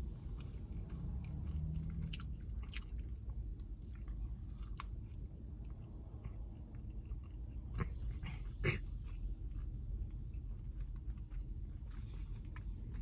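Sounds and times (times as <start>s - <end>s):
chewing and biting sandwich: 0.0s - 13.0s.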